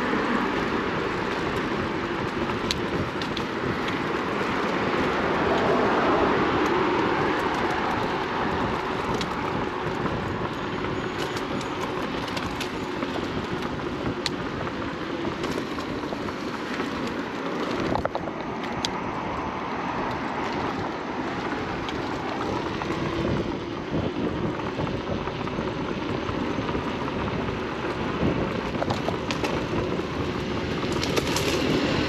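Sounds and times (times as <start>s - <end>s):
road noise from electric scooter: 0.0s - 32.0s
wind rushing over microphone: 0.0s - 32.0s.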